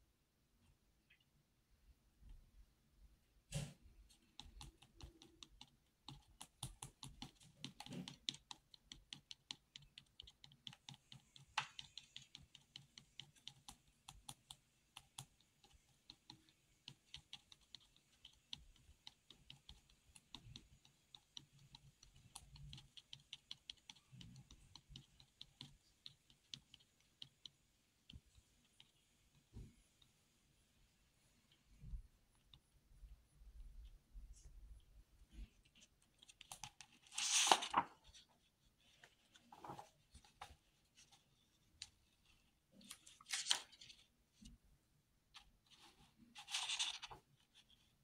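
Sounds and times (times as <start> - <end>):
faint rapid irregular clicking: 3.5 - 30.6, 31.2 - 44.6.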